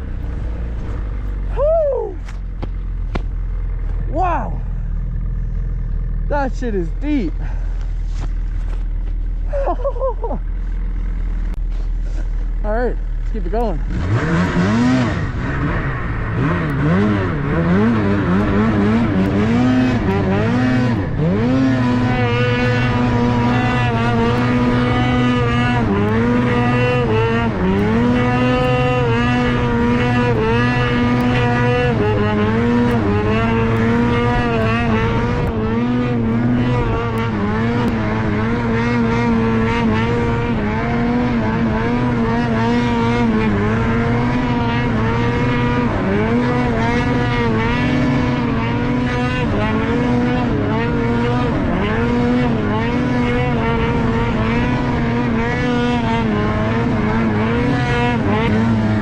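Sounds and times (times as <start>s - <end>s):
snowmobile engine revving: 0.0s - 59.0s.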